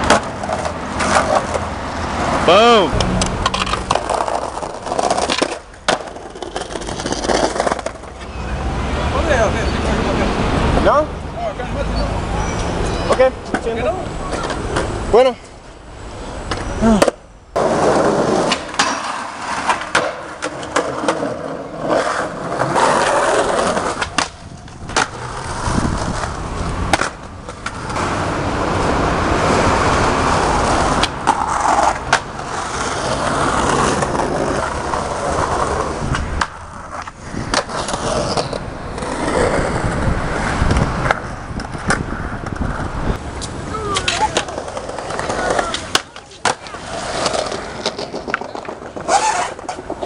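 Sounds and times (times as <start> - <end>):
skateboard clacking on ground: 0.0 - 1.8, 2.5 - 8.3, 12.9 - 15.6, 16.4 - 50.0
skateboard wheels rolling on concrete: 0.0 - 50.0.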